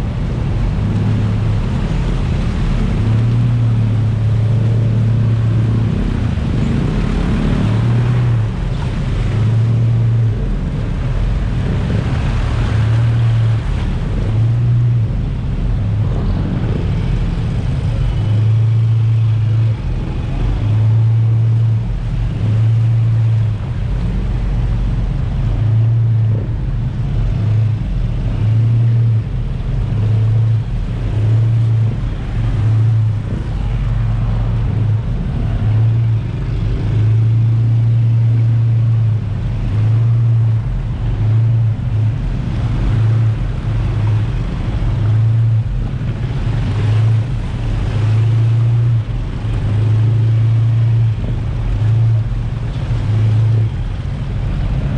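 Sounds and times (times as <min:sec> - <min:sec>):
jet ski engine droning: 0:00.0 - 0:54.9
water noise: 0:00.0 - 0:54.9
wind on microphone: 0:00.0 - 0:54.9.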